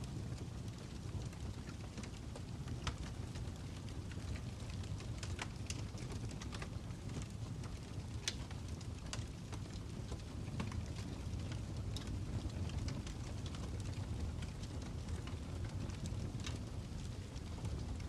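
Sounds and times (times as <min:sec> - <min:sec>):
fire crackling: 0:00.0 - 0:18.0.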